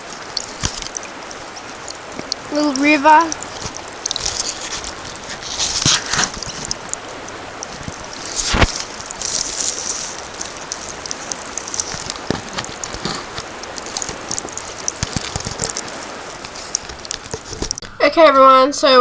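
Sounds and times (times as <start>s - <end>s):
water rushing over waterfall: 0.0s - 17.8s.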